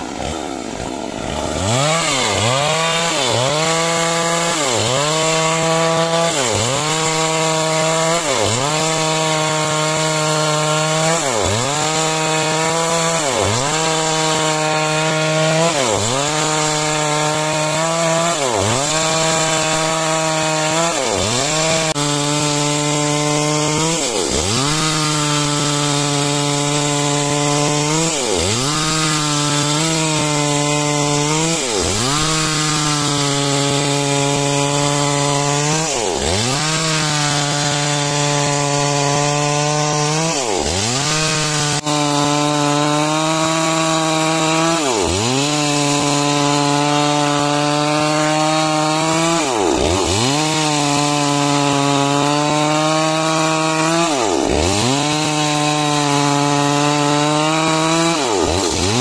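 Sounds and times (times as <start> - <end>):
chainsaw cutting timber: 0.0 - 59.0.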